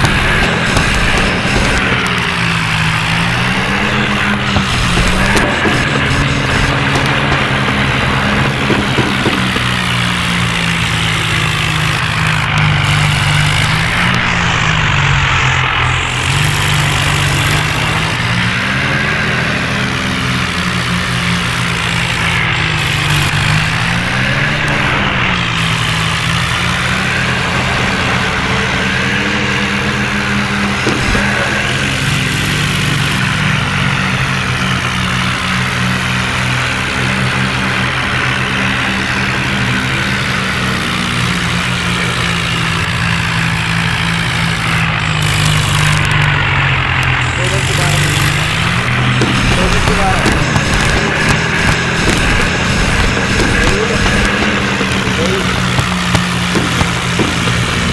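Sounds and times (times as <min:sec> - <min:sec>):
tractor diesel engine revving: 0:00.0 - 0:57.9.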